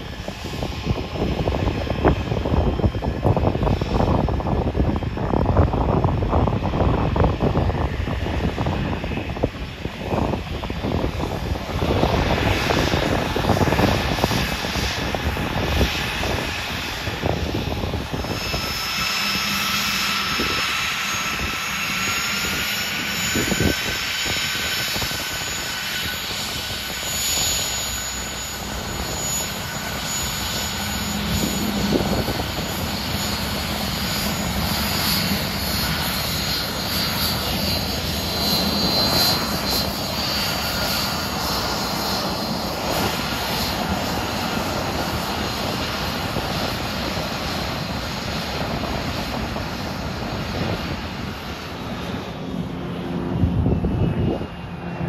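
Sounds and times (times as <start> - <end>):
high turbine whine: 0.0 - 55.0
jet engine rumble: 0.0 - 55.0.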